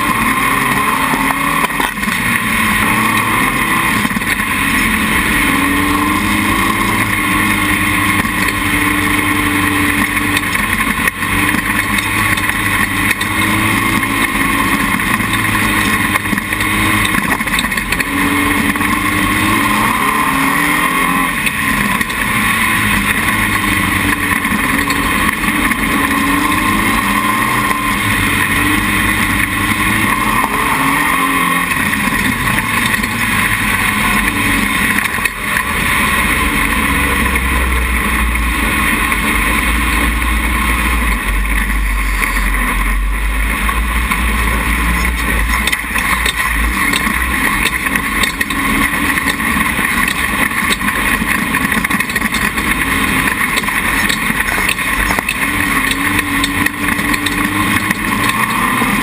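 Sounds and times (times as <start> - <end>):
buggy engine running under load: 0.0 - 59.0.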